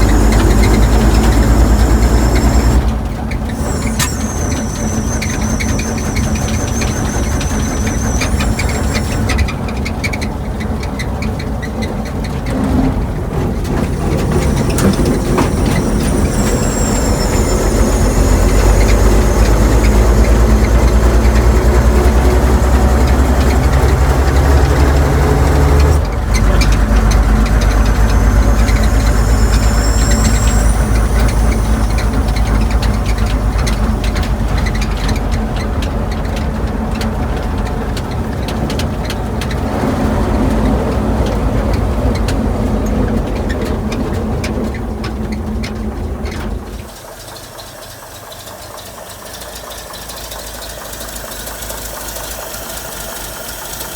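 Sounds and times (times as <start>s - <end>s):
pickup engine running: 0.0s - 53.9s.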